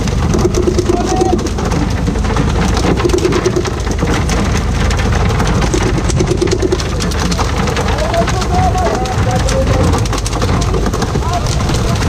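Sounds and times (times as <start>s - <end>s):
boat engine running: 0.0s - 12.0s
knocks and clatter on deck: 0.0s - 12.0s
sea water splashing: 0.0s - 12.0s
wind: 0.0s - 12.0s.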